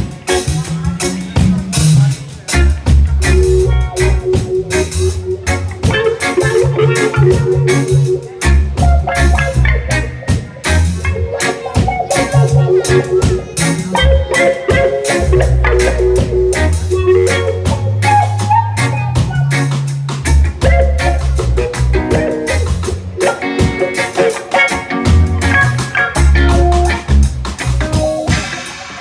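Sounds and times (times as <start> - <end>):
reggae band playing: 0.0 - 29.0.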